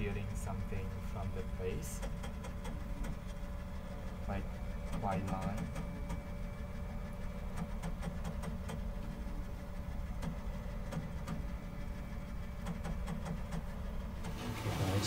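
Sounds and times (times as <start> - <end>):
printer fan and motor hum: 0.0 - 15.0.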